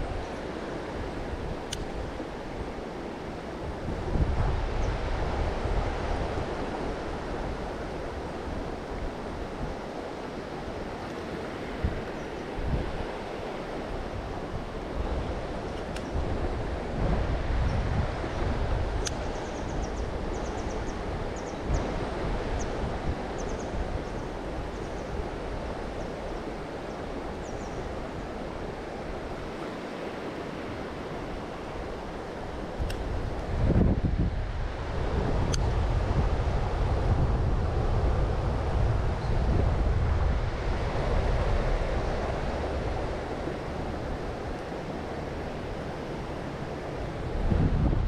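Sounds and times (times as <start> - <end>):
river water rushing: 0.0 - 48.0
wind buffeting microphone: 0.0 - 48.0.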